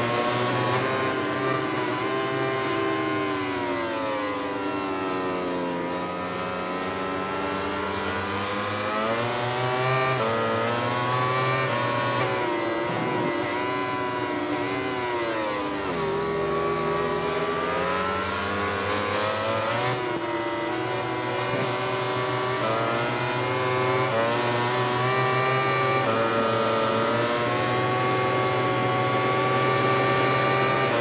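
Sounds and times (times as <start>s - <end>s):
racing motorcycle engine: 0.0s - 31.0s.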